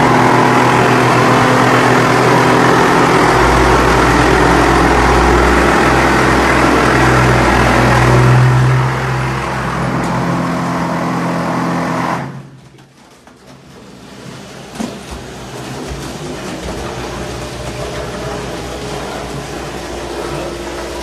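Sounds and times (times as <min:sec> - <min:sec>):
plastering machine motor humming: 0:00.0 - 0:21.0.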